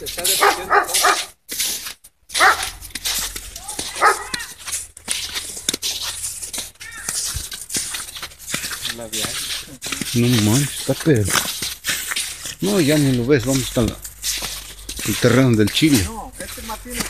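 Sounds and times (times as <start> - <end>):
steady rustling noise: 0.0 - 17.0.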